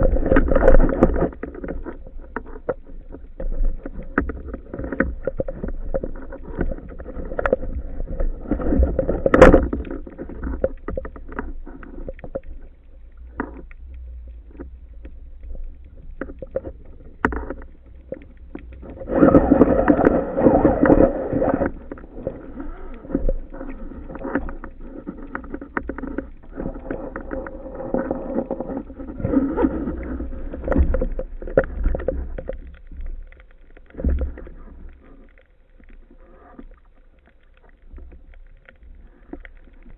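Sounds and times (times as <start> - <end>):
muffled underwater water rush: 0.0 - 39.9
underwater clicks and knocks: 0.0 - 39.9.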